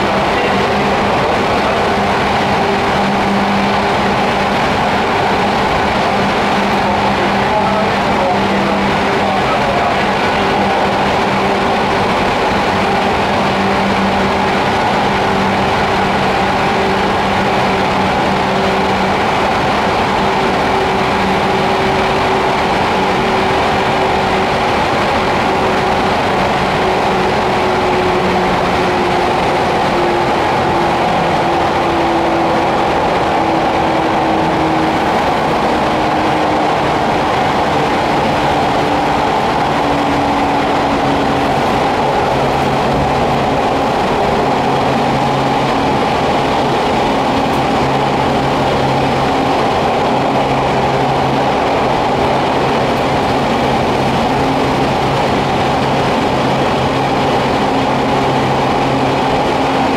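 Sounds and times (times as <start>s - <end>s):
traction motor hum: 0.0s - 59.9s
train wheels on rails: 0.0s - 59.9s.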